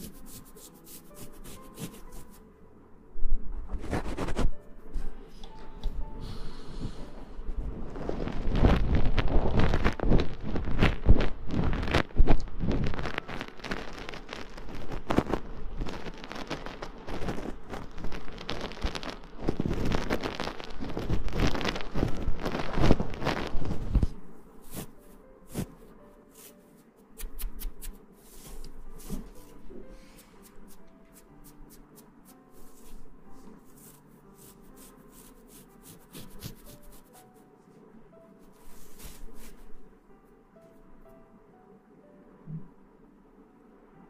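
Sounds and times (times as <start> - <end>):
rustling and rubbing on microphone: 0.0 - 2.4, 3.5 - 4.6, 7.4 - 37.9, 38.5 - 39.9.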